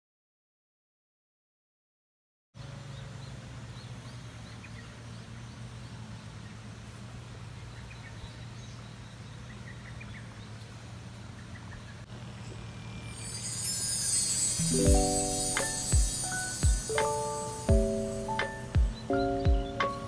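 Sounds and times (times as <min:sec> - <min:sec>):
small birds chirping: 0:02.6 - 0:20.0.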